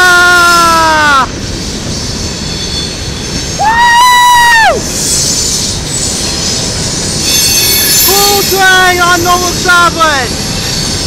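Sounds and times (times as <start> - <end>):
freight train rumbling and rattling: 0.0 - 11.0
loud high-pitched squeal: 0.1 - 11.0.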